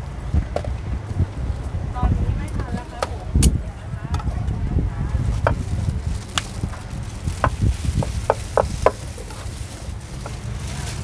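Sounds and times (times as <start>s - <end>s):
low rumble of market background: 0.0s - 11.0s
wind: 0.0s - 11.0s.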